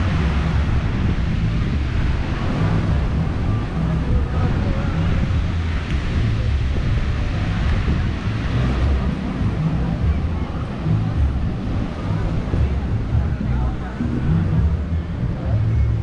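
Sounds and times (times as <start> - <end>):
faint voices: 0.0 - 16.0
ocean surf: 0.0 - 16.0
wind buffeting microphone: 0.0 - 16.0.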